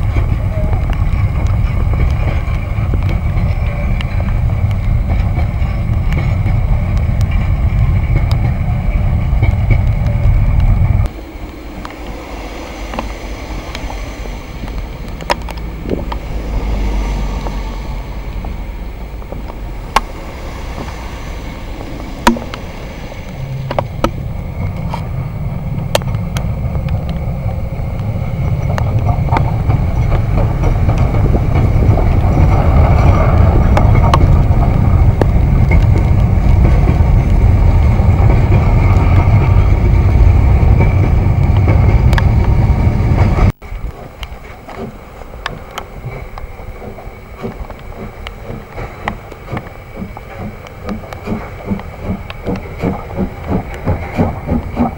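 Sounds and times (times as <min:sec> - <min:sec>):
steam train rumbling past: 0:00.0 - 0:54.9.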